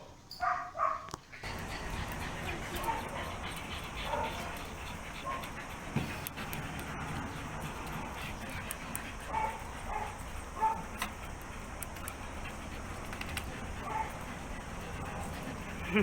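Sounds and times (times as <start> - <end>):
dogs barking and yipping: 0.3 - 16.0.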